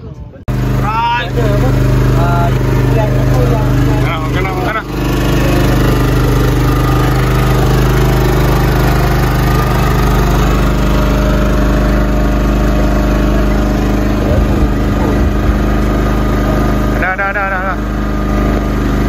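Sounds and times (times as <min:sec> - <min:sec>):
boat engine droning: 0:00.5 - 0:19.0.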